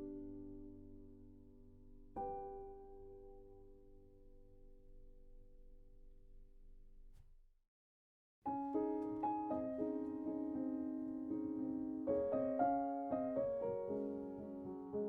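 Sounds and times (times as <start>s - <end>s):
gentle piano piece: 0.0s - 6.4s, 8.5s - 15.0s.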